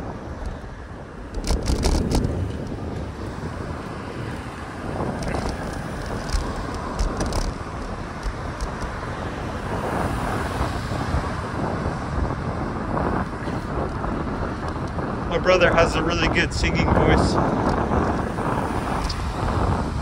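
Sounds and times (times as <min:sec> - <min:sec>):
road and traffic hiss: 0:00.0 - 0:20.0
wind rumble on microphone: 0:00.0 - 0:20.0.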